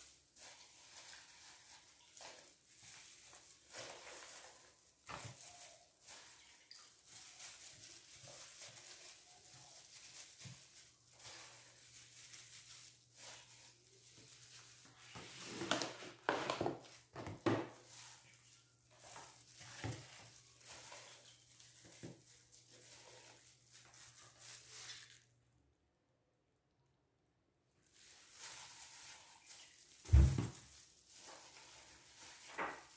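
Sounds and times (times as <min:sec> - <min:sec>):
plastic containers rustling and knocking: 0:00.4 - 0:25.2, 0:28.0 - 0:32.9.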